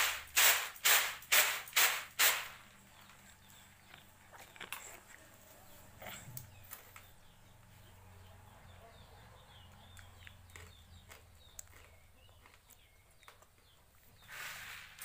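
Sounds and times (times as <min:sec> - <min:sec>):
faint birds chirping: 0:02.4 - 0:15.0.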